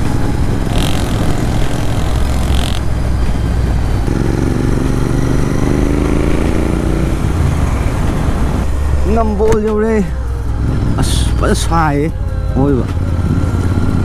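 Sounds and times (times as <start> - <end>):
motorcycle engine running: 0.0 - 12.0, 12.6 - 14.0.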